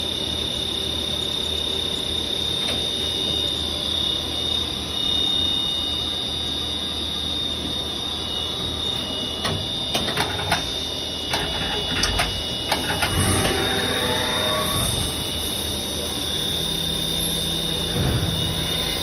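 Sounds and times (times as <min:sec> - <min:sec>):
machine high-pitched whine: 0:00.0 - 0:19.0.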